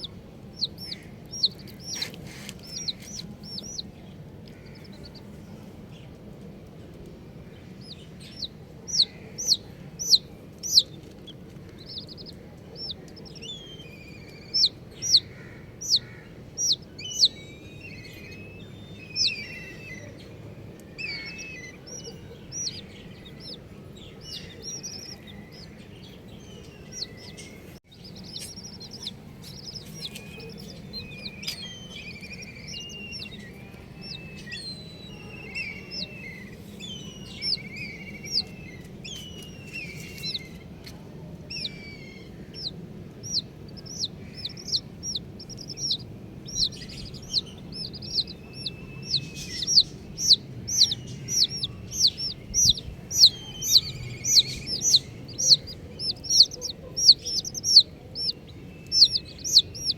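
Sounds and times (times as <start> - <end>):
soft trilling chirps: 0.0 - 5.3, 7.6 - 59.9
baby chicks peeping: 0.0 - 59.9.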